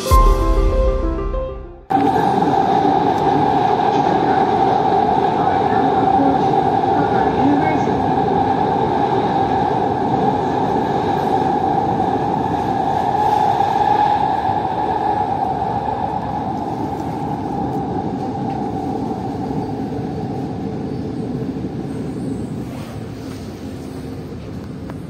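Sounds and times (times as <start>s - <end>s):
train rumble with high whine: 0.0s - 25.0s.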